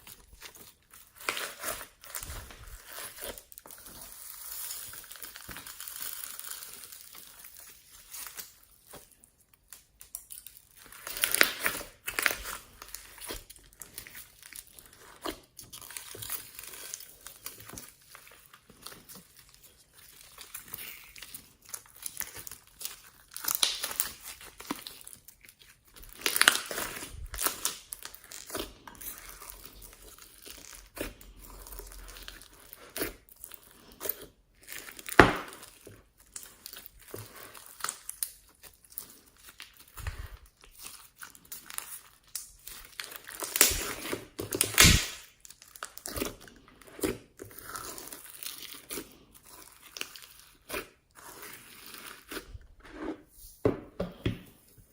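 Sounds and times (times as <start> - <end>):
slime crackling and popping: 0.0 - 52.8.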